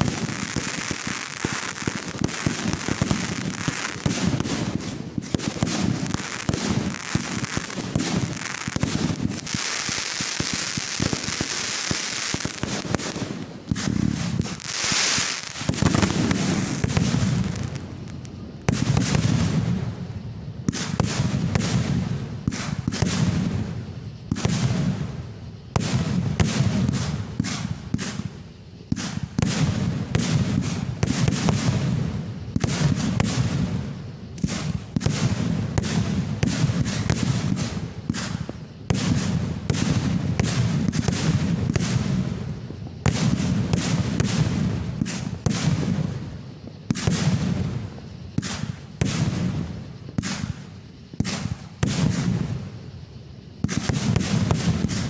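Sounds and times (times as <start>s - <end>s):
fireworks booming bursts: 0.0s - 55.0s
fireworks crackling and popping: 0.0s - 55.0s.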